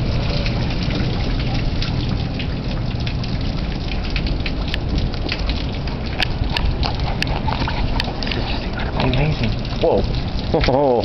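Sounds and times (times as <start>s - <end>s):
heavy rain pouring: 0.0s - 11.0s
raindrops ticking close by: 0.0s - 11.0s.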